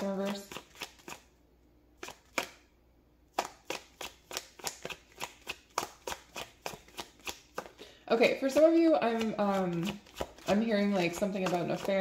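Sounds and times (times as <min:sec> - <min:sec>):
cards being shuffled: 0:00.0 - 0:01.3, 0:02.0 - 0:02.6, 0:03.3 - 0:12.0.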